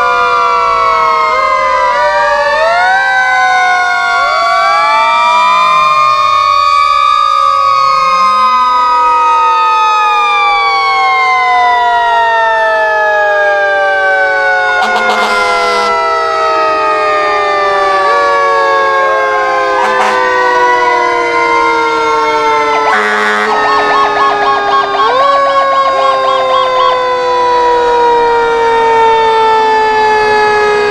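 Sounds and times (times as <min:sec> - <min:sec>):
fire engine sirens wailing: 0:00.0 - 0:30.9
short siren blasts: 0:00.0 - 0:30.9.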